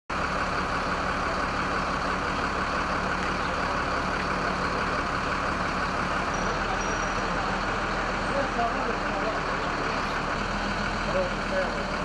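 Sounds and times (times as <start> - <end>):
truck engine humming: 0.1 - 12.0.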